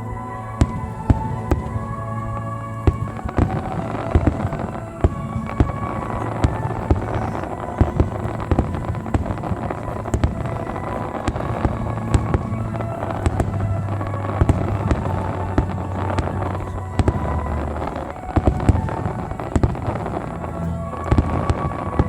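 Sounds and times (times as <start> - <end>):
steady low drone: 0.0 - 22.0
fireworks bangs and crackles: 0.6 - 22.0.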